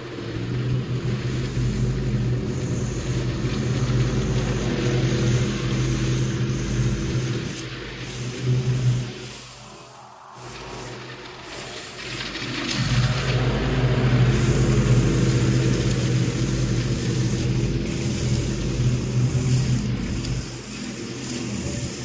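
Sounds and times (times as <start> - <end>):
lawn mower engine running: 0.0 - 9.6, 10.5 - 22.0.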